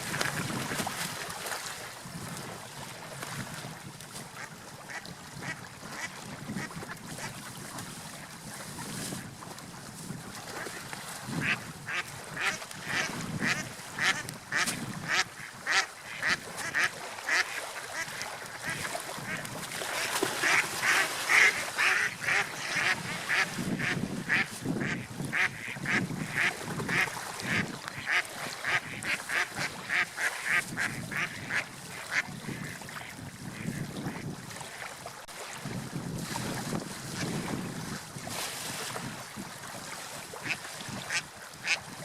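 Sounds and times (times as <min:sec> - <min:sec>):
surf: 0:00.0 - 0:42.0
wind: 0:00.0 - 0:42.0.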